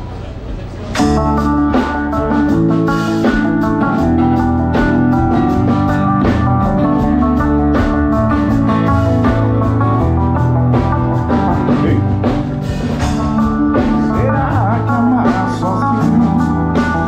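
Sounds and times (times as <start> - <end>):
band playing: 0.0 - 17.0.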